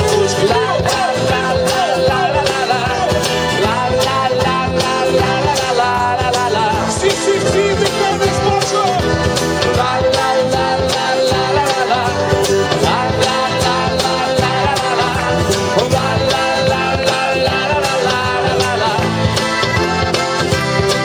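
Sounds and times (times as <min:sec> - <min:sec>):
accordion chords: 0:00.0 - 0:21.0
cajon beat: 0:00.0 - 0:21.0
strummed guitars: 0:00.0 - 0:21.0.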